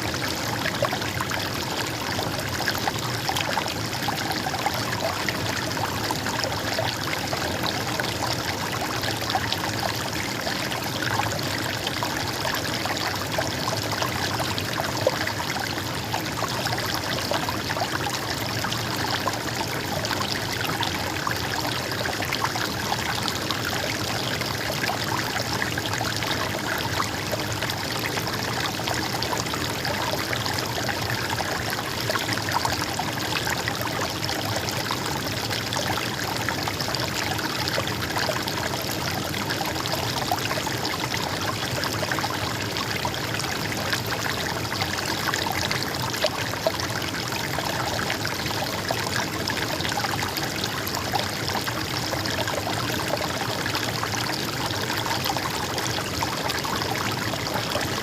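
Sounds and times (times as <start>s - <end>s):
stream water babbling: 0.0s - 58.0s.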